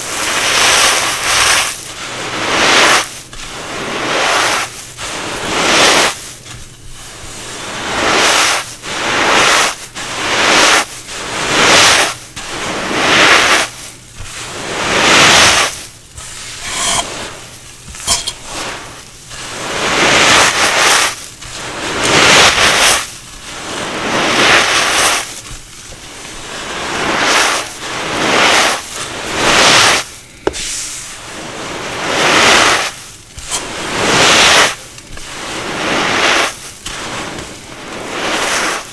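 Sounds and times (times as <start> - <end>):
dried cornstarch crunching: 0.0 - 38.9.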